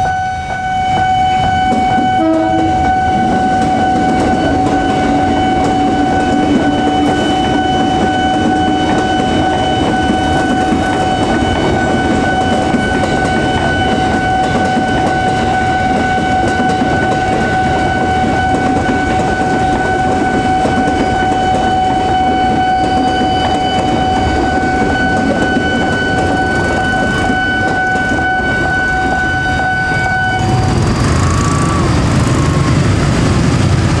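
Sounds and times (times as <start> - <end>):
steady high-pitched tone: 0.0 - 33.0
train wheel noise: 0.0 - 34.0.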